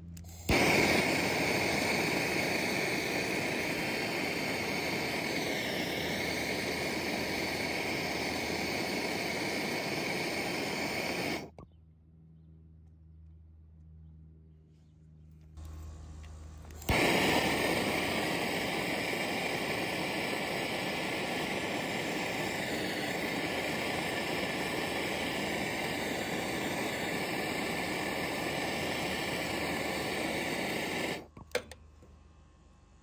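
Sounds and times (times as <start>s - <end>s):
torch click: 0.1s - 11.6s, 15.6s - 31.8s
gas torch hissing: 0.2s - 11.6s, 15.6s - 31.8s
gas torch lighting pop: 0.2s - 11.6s, 15.6s - 31.8s.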